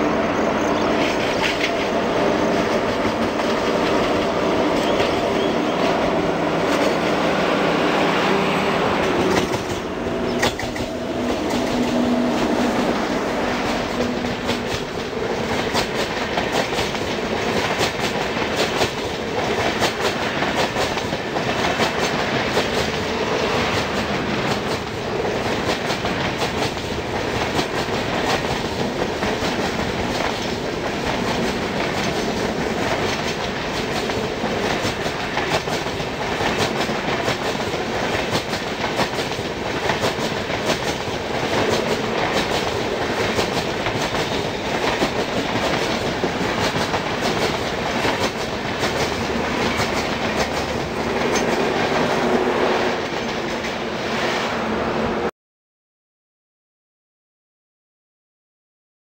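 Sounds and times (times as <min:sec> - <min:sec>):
train wheels clattering on track: 0:00.3 - 0:54.6.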